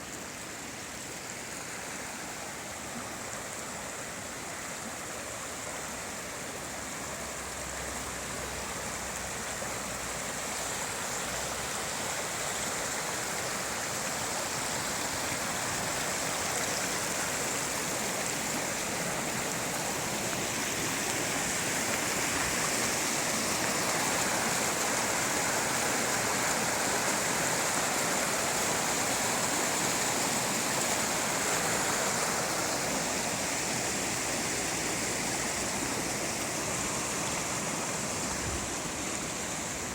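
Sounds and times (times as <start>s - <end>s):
river rushing white water: 0.0s - 39.9s.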